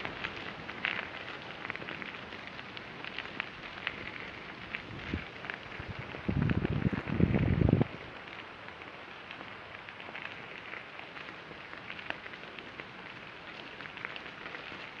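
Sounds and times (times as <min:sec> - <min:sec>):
bike tyres crackling on trail: 0:00.0 - 0:15.0
small ticks and rattles: 0:00.0 - 0:15.0.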